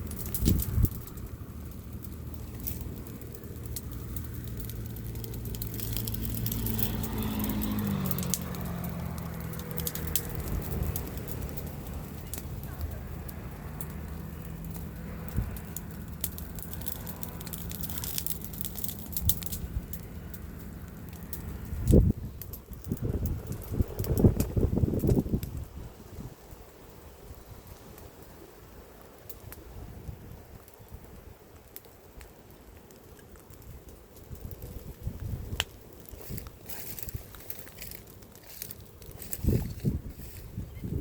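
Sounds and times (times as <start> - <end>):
light clicks and crackles: 0.0 - 41.0.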